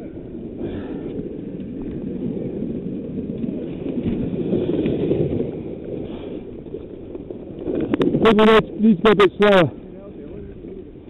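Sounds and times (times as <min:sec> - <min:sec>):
toboggan sliding over snow: 0:00.0 - 0:09.7
wind buffeting microphone: 0:00.0 - 0:11.0.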